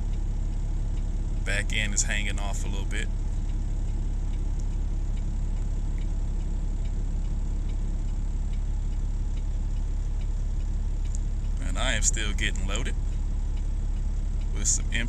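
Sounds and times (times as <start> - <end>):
diesel engine idling: 0.0 - 15.0
faint regular ticking: 0.0 - 15.0.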